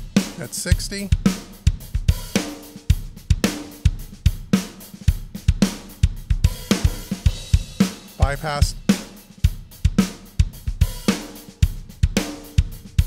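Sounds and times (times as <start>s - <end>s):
drum kit playing groove: 0.0s - 13.0s.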